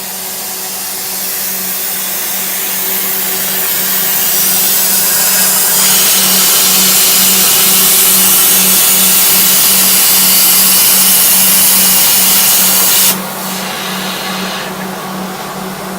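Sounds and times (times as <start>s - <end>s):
plasma cutter hissing: 0.0s - 14.9s
low pulsing machine hum: 0.0s - 15.9s.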